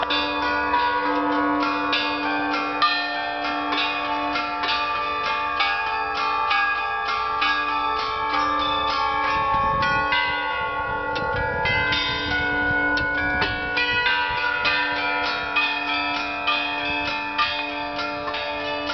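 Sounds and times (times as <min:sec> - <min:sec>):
bells ringing: 0:00.0 - 0:18.9.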